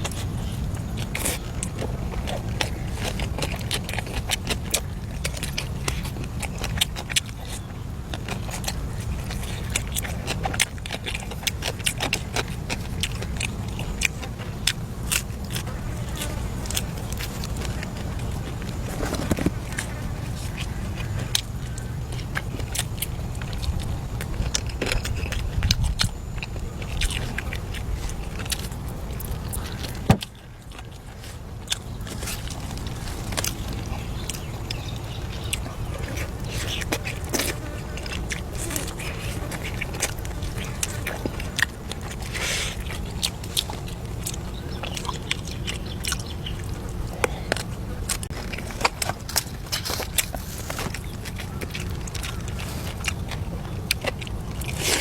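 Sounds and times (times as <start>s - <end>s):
person chewing food: 0.0s - 55.0s
steady low rumble: 0.0s - 55.0s.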